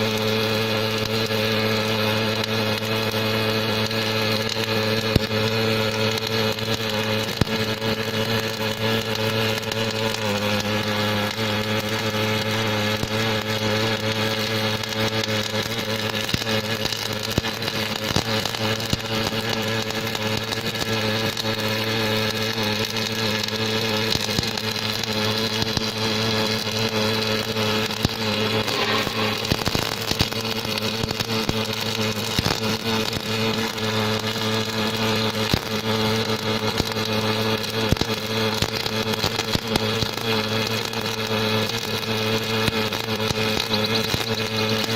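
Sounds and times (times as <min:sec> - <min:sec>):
welding crackle: 0:00.0 - 0:44.9
welding machine hum: 0:00.0 - 0:44.9.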